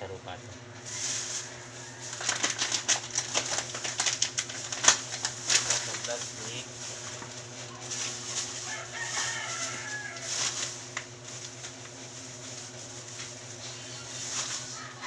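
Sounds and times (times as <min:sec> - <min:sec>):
steady low hum: 0:00.0 - 0:15.0
plastic packaging crinkling: 0:01.9 - 0:15.0.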